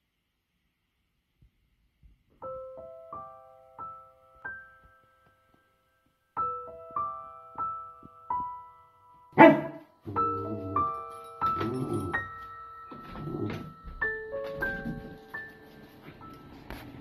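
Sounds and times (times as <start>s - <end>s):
gentle piano music: 2.3s - 17.0s.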